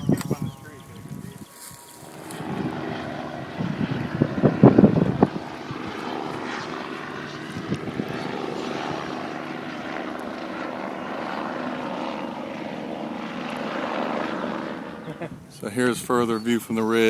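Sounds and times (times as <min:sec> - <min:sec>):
engine drone: 0:00.0 - 0:15.3.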